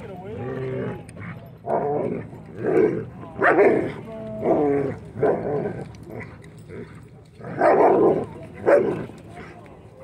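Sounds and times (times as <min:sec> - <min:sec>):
dogs growling: 0:00.1 - 0:09.6.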